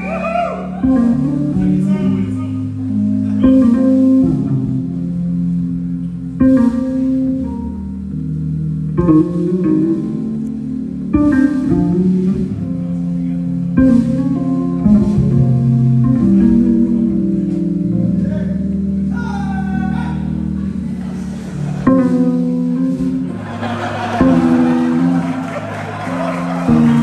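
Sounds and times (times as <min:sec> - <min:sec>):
electric bass playing: 0:00.0 - 0:27.0.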